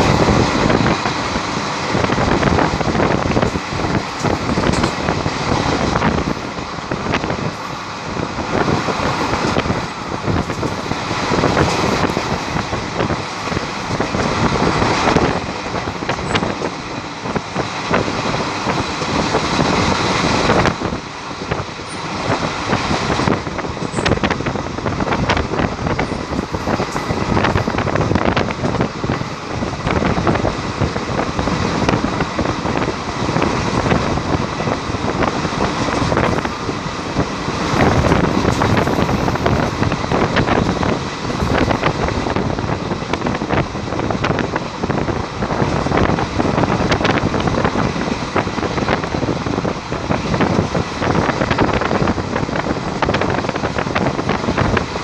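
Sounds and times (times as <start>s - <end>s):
train wheels rumbling on rails: 0.0s - 55.0s
wind on microphone: 0.0s - 55.0s.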